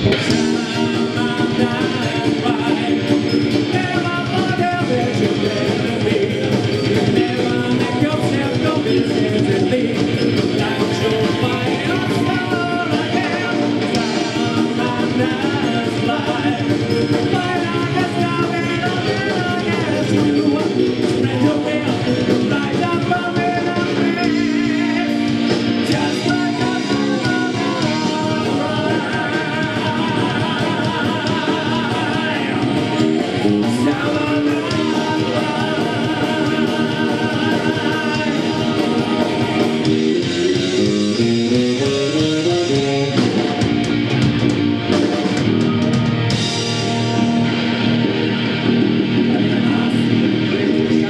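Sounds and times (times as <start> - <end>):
bass guitar: 0.0 - 51.0
distorted electric guitar: 0.0 - 51.0
drum kit: 0.0 - 51.0.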